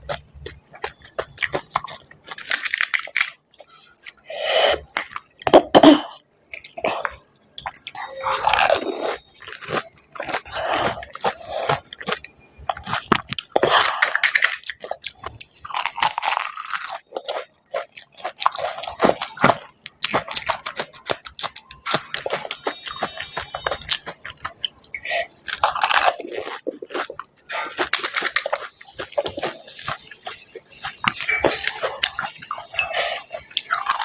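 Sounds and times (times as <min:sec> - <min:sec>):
crunchy food being chewed: 0:00.0 - 0:34.0.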